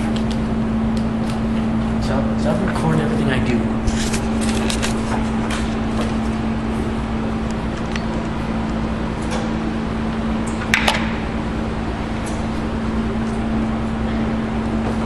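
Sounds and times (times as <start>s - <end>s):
mechanical hum with low rumble: 0.0s - 15.0s.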